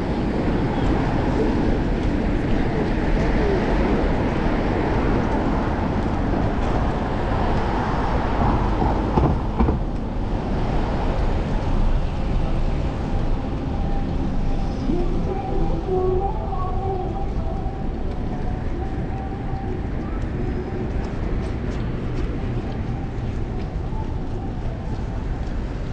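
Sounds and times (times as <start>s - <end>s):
passing cars: 0.0s - 25.9s
wind rumbling on camera: 0.0s - 25.9s.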